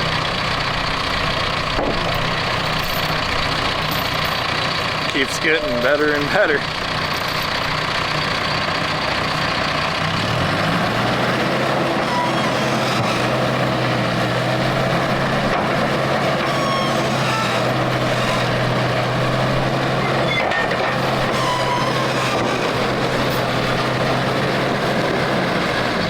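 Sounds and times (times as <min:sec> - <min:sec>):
heavy machine engine running hard: 0:00.0 - 0:26.0.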